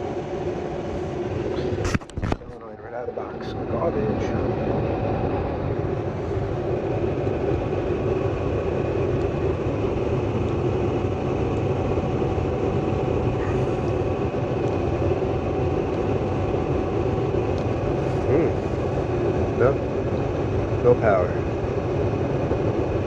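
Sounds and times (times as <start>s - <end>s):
furnace blower humming: 0.0s - 23.0s.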